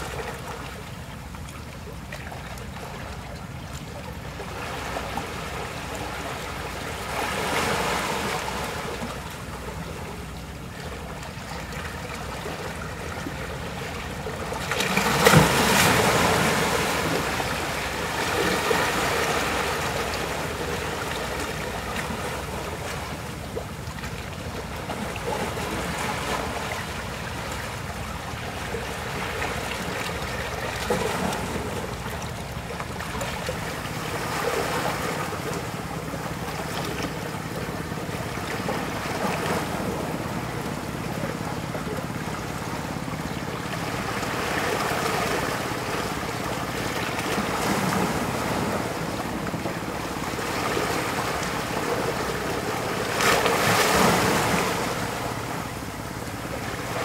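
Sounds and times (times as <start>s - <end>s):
surf washing among rocks: 0.0s - 1.8s, 2.6s - 57.0s.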